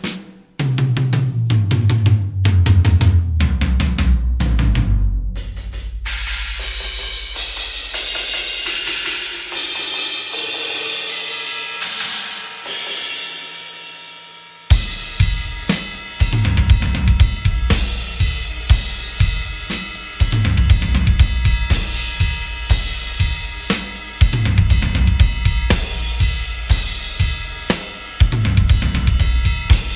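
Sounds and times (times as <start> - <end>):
cymbals washing: 5.6 - 29.9.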